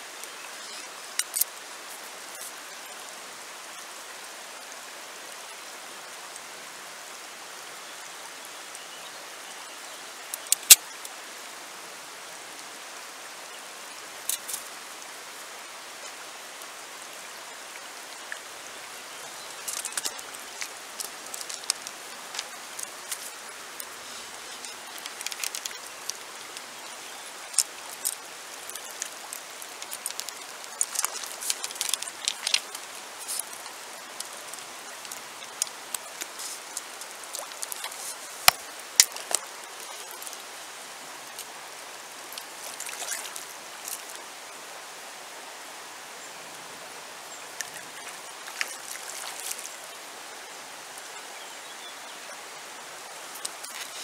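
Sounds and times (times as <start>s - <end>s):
river rushing over stones: 0.0s - 54.0s.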